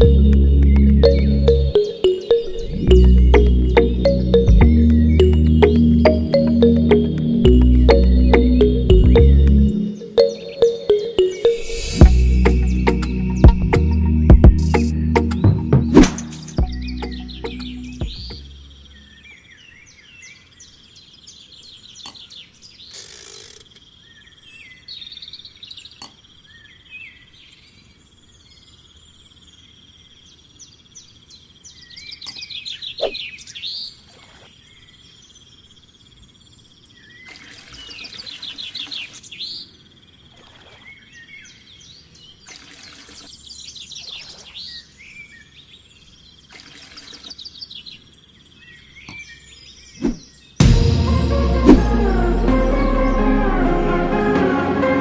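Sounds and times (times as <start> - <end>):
birds chirping and trilling: 0.0 - 50.6.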